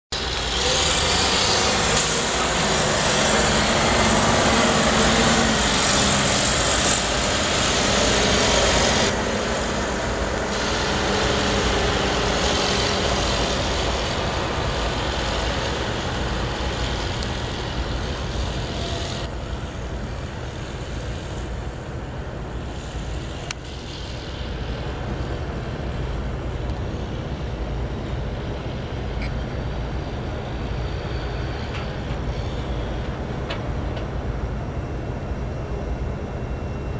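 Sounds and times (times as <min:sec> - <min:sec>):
engine and machinery drone: 0:00.1 - 0:36.9.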